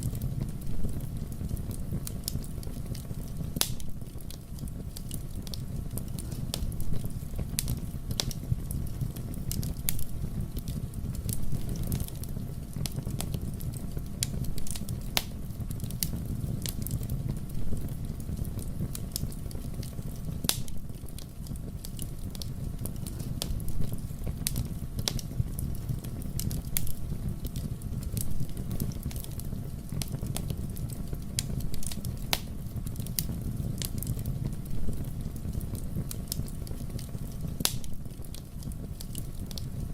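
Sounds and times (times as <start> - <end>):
burning wood crackling and popping: 0.0 - 39.9
fire rumbling in fireplace: 0.0 - 39.9.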